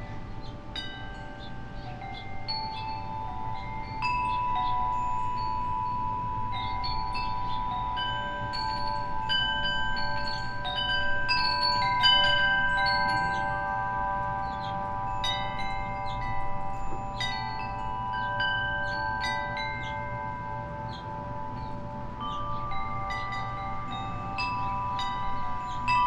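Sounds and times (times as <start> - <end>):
wind chime ringing: 0.0 - 26.0.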